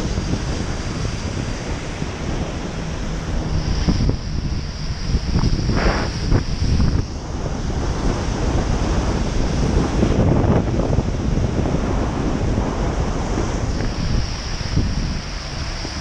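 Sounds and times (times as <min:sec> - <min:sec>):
passing traffic: 0:00.0 - 0:16.0
tyres hissing on wet road: 0:00.0 - 0:16.0
wind buffeting microphone: 0:00.0 - 0:16.0.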